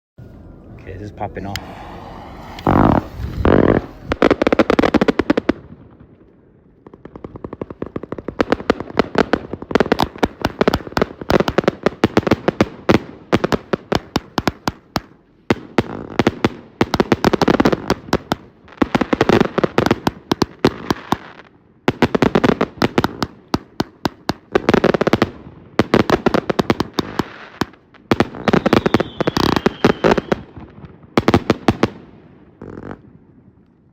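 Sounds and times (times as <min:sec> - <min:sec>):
firework crackling bursts: 0:01.4 - 0:33.0
firework shots: 0:01.4 - 0:33.0.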